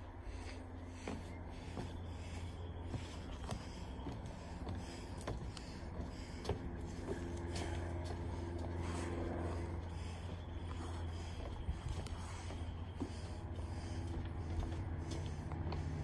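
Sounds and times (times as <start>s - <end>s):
footsteps on wooden boardwalk: 0.0s - 16.0s
low steady hum: 0.0s - 16.0s.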